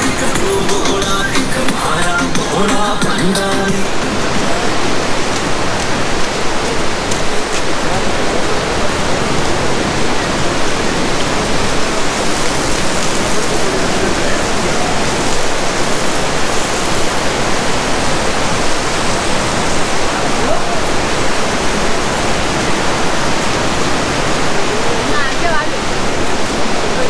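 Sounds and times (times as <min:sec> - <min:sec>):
rushing white water: 0:00.0 - 0:27.0.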